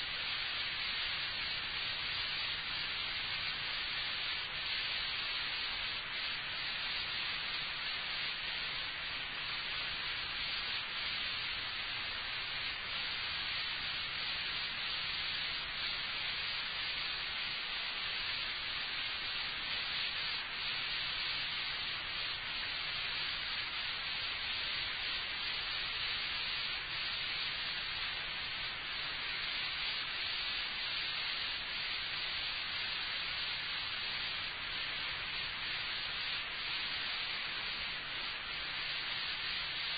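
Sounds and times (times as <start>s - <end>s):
recording hiss: 0.0s - 39.9s.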